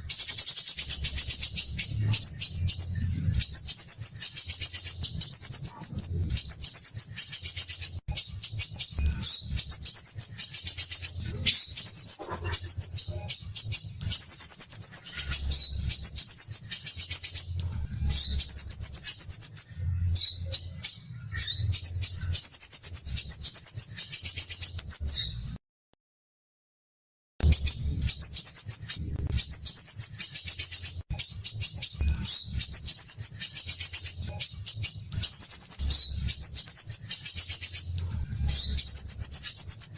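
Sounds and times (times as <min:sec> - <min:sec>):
bird singing high trills: 0:00.0 - 0:25.6, 0:27.4 - 0:39.9.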